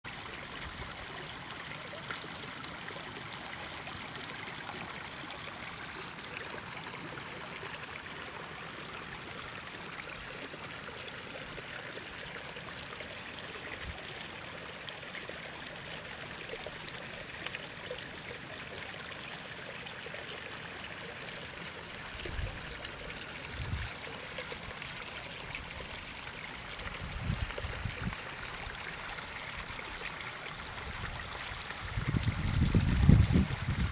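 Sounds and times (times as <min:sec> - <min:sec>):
stream running over rocks: 0:00.0 - 0:33.9.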